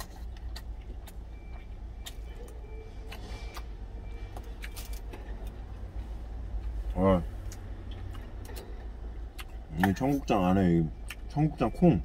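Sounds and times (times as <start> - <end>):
chewing: 0.0 - 6.8, 7.4 - 11.6.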